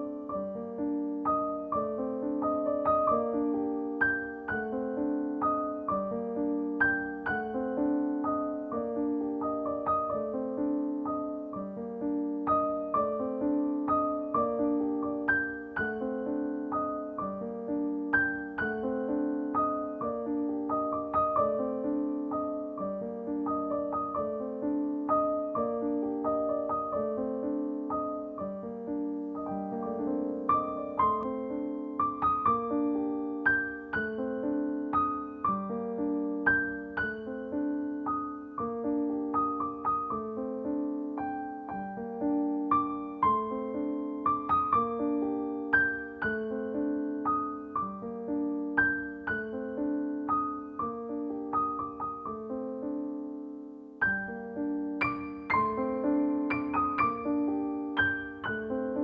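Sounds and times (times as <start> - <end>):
gentle piano music: 0.0 - 59.0.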